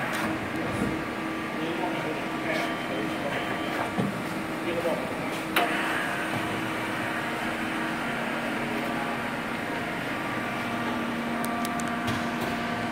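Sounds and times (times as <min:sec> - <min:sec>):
lathe machine hum: 0:00.0 - 0:12.9.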